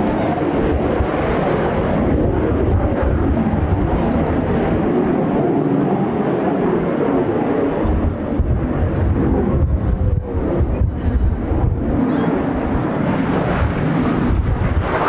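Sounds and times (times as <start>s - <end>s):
jet engine noise: 0.0s - 15.0s
wind buffeting microphone: 0.0s - 15.0s.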